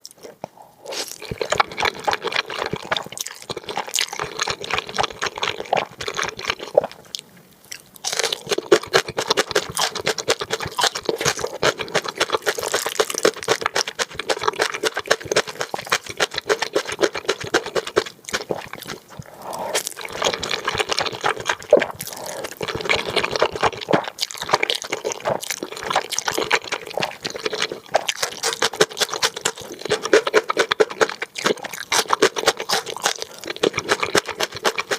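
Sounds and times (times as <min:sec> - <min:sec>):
wet chewing and slurping: 0:00.0 - 0:34.9.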